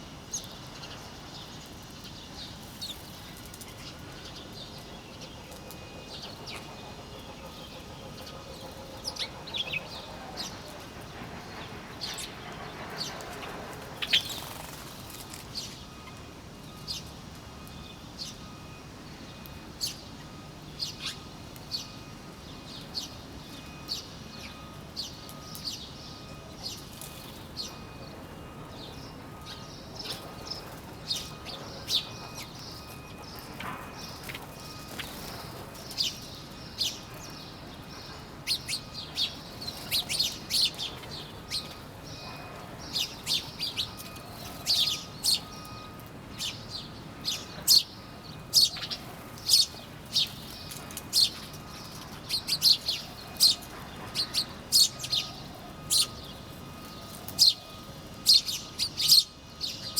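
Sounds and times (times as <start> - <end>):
small birds chirping: 0.2 - 59.9.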